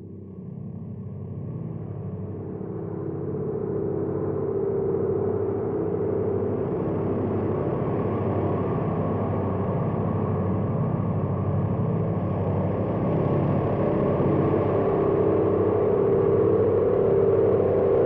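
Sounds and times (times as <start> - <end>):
low sci-fi drone: 0.0 - 18.0.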